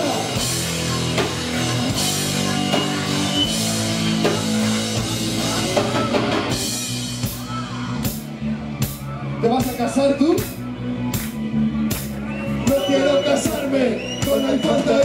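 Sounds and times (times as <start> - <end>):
heavy rock band playing: 0.0 - 15.0.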